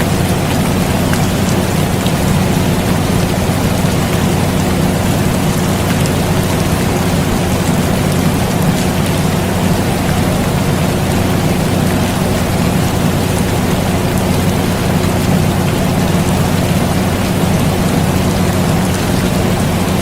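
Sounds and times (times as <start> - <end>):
air conditioner hum: 0.0 - 20.0
steady rain: 0.0 - 20.0.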